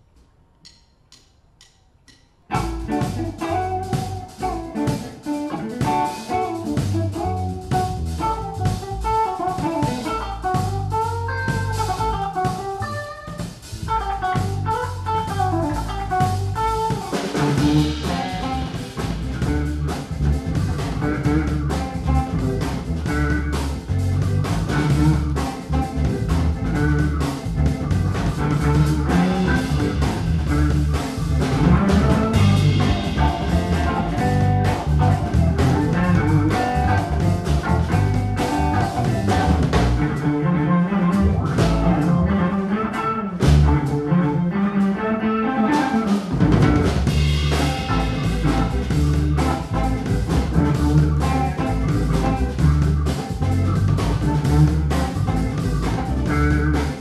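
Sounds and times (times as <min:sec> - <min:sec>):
drums and cymbals: 0:00.0 - 0:40.3, 0:41.2 - 0:42.2, 0:43.4 - 0:43.9, 0:45.7 - 0:57.0
electric guitar melody: 0:02.5 - 0:57.0
jazz-funk band playing: 0:02.5 - 0:57.0.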